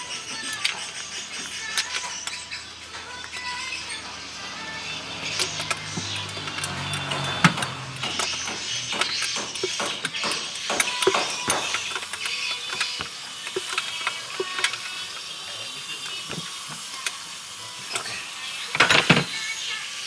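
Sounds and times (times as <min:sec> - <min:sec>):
tools clanking on metal: 0:00.0 - 0:19.4
ratchet clicking: 0:00.0 - 0:20.0.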